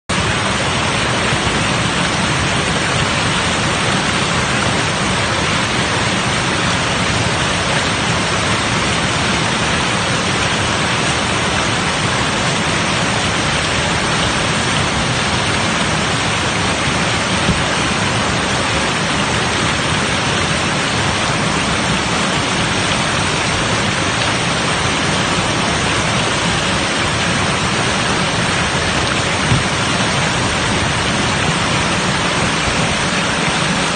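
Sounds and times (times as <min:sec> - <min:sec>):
whitewater rushing over a weir: 0:00.1 - 0:33.9.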